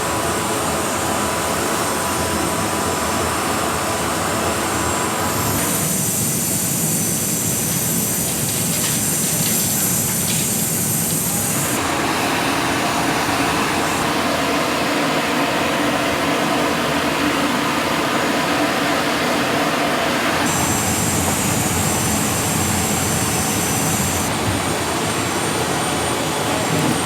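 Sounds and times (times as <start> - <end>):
jet engines rushing: 4.0 - 27.0.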